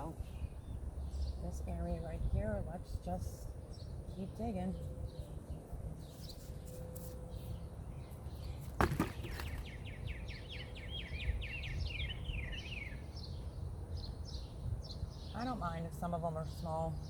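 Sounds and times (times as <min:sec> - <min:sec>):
songbird singing rapid notes: 0:00.0 - 0:17.0.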